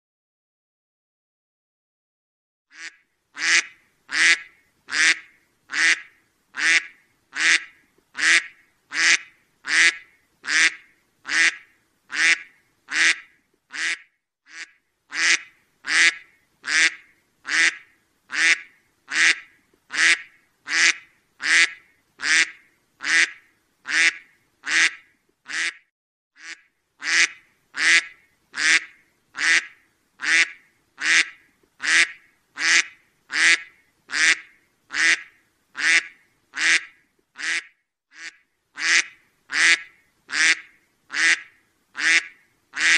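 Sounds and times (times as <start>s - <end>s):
duck quacking: 2.7s - 42.9s.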